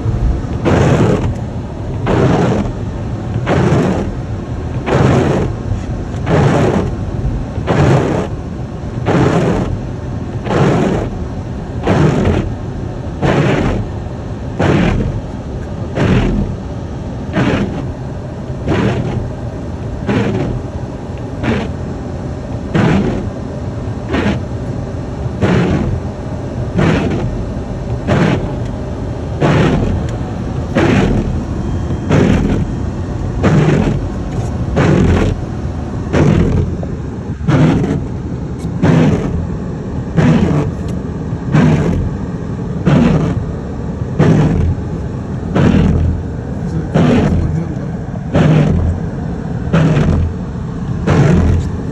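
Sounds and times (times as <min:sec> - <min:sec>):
windshield wipers swishing: 0:00.0 - 0:08.4, 0:09.0 - 0:11.2, 0:11.8 - 0:12.6, 0:13.2 - 0:14.0, 0:14.6 - 0:16.6, 0:17.4 - 0:18.0, 0:18.7 - 0:19.4, 0:20.0 - 0:20.7, 0:21.4 - 0:21.8, 0:22.7 - 0:23.3, 0:24.0 - 0:24.8, 0:25.4 - 0:26.1, 0:26.8 - 0:39.6, 0:40.2 - 0:42.2, 0:42.8 - 0:43.5, 0:44.1 - 0:51.9
car driving rumble: 0:00.0 - 0:51.9.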